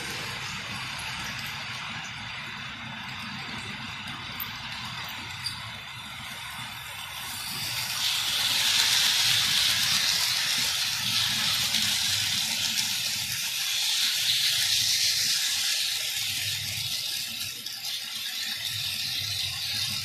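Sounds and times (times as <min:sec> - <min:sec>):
model train wheels rattling on rails: 0:00.0 - 0:20.0.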